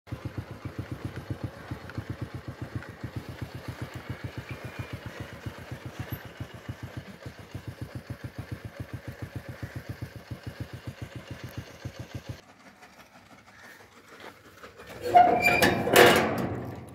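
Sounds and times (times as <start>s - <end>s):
motorcycle engine puttering: 0.1s - 16.9s.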